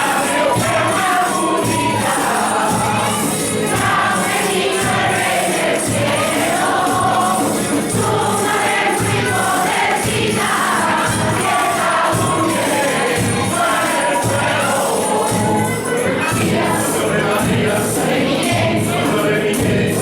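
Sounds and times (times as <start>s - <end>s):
group singing a carol: 0.0s - 20.0s
instrumental accompaniment: 0.0s - 20.0s
jingling percussion beat: 0.0s - 20.0s.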